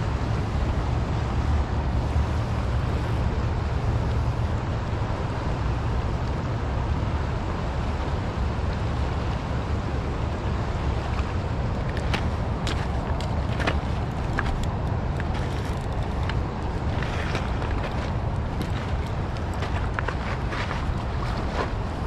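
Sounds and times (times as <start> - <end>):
river current rushing: 0.0 - 22.0
wind buffeting microphone: 0.0 - 22.0.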